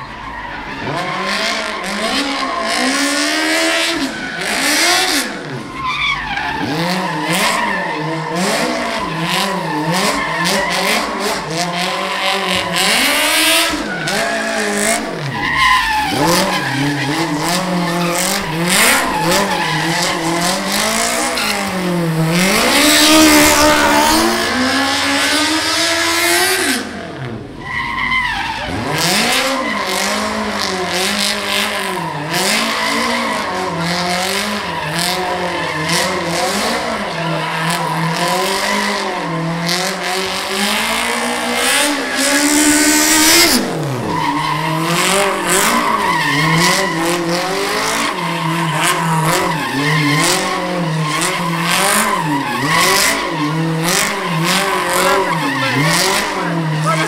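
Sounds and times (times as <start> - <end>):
tyres squealing on tarmac: 0.0 - 26.4, 27.5 - 57.0
car engine revving: 0.6 - 57.0.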